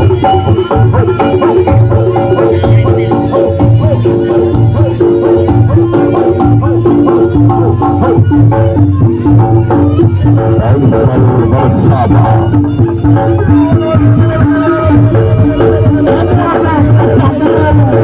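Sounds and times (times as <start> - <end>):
drums: 0.0 - 18.0
pitched gamelan percussion notes: 0.0 - 18.0.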